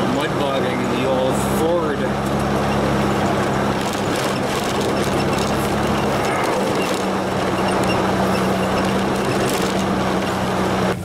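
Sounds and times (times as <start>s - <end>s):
truck engine drone: 0.0s - 11.0s
tyre noise on gravel road: 0.0s - 11.0s.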